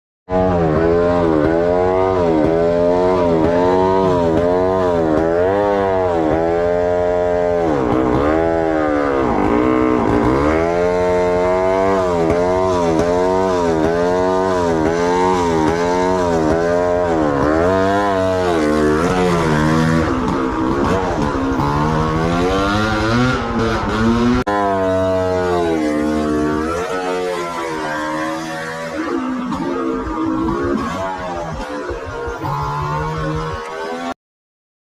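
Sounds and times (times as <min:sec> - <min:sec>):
dirt bike engine revving: 0:00.3 - 0:34.2.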